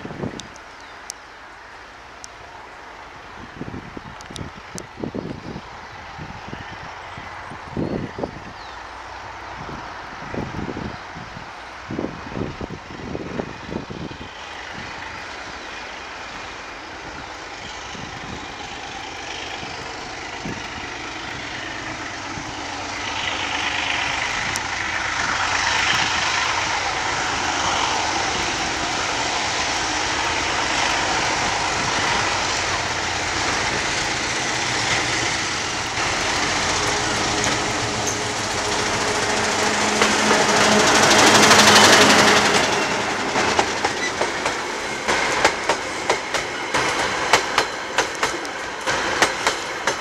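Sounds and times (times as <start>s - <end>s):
diesel locomotive engine drone: 0.0s - 50.0s.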